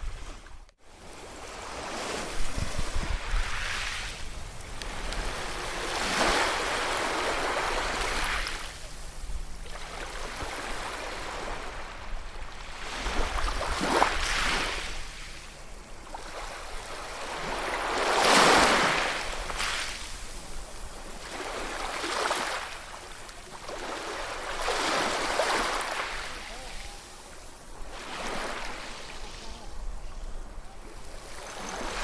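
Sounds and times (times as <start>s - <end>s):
sea waves breaking on shore: 0.0s - 32.0s.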